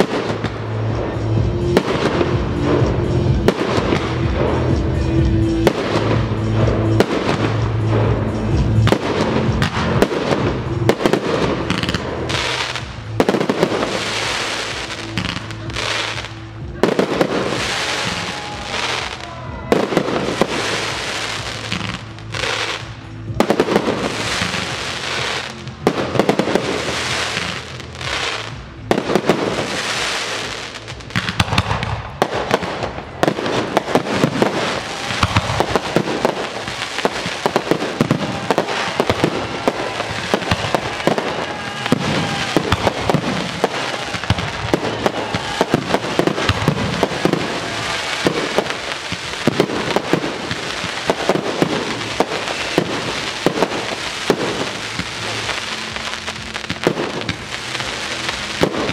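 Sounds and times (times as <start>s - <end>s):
dense crackling of fireworks: 0.0s - 58.9s.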